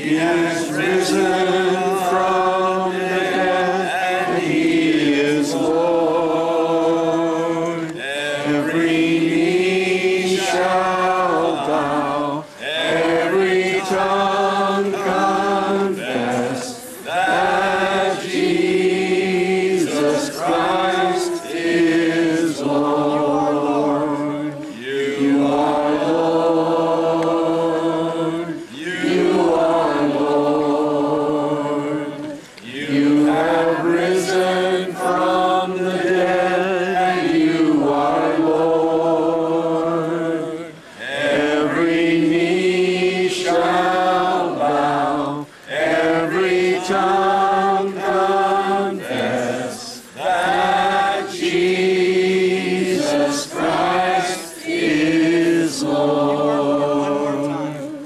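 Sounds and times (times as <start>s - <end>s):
group singing worship chorus: 0.0s - 58.0s.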